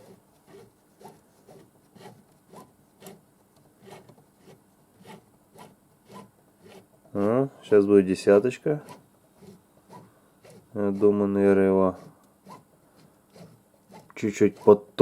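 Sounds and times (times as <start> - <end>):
faint rhythmic rubbing strokes: 0.0 - 15.0.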